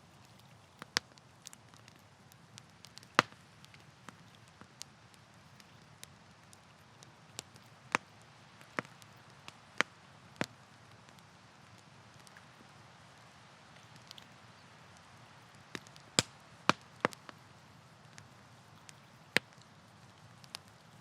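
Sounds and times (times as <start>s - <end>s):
campfire crackling and popping: 0.0s - 21.0s
faint steady hiss: 0.0s - 21.0s.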